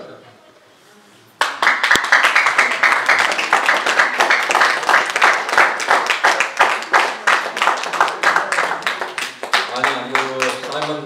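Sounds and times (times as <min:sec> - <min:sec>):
audience applause: 0:01.4 - 0:11.0.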